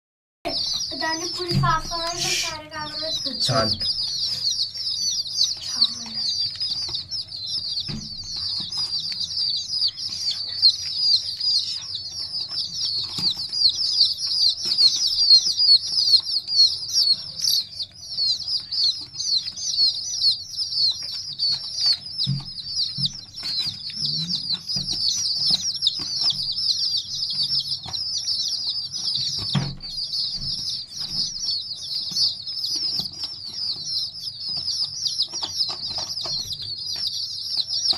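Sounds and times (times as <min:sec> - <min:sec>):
chicks peeping: 0:00.5 - 0:37.9.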